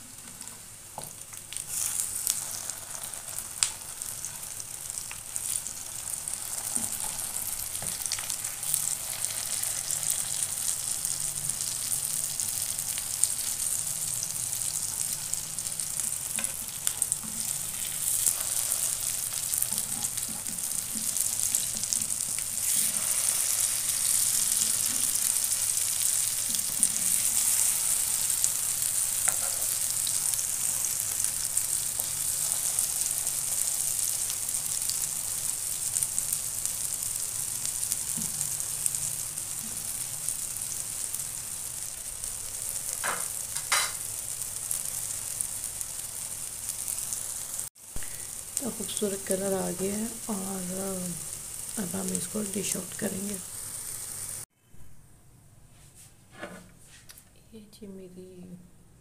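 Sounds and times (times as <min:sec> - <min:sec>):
patties sizzling in oil: 0:00.0 - 0:54.5.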